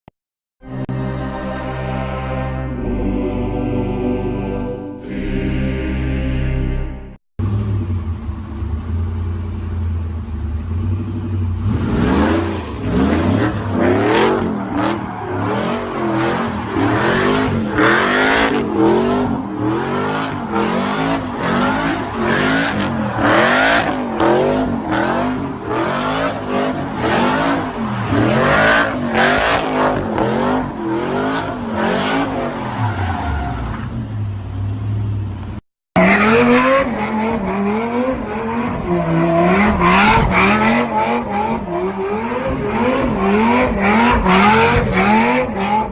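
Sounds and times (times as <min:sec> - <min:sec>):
car engine revving: 0:00.6 - 0:35.4, 0:36.0 - 0:45.9.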